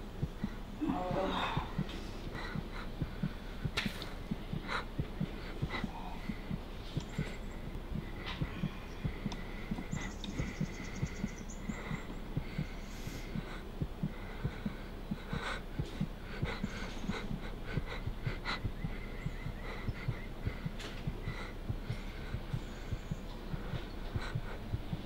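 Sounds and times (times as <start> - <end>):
rapid low thumps: 0.0 - 25.0
steady low hum: 0.0 - 25.0.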